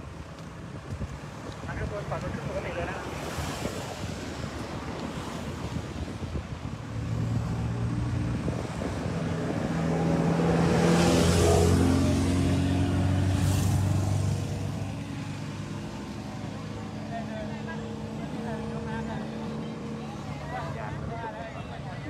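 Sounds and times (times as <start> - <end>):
vehicle passing on road: 0.0 - 22.0.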